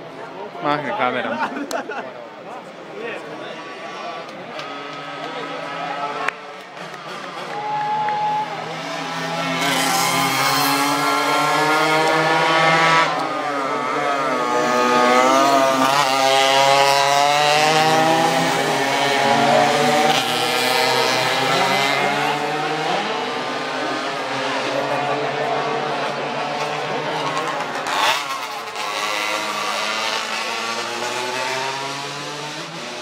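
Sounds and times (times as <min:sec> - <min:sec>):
two-stroke moped engines revving: 0:03.4 - 0:07.6, 0:08.3 - 0:33.0.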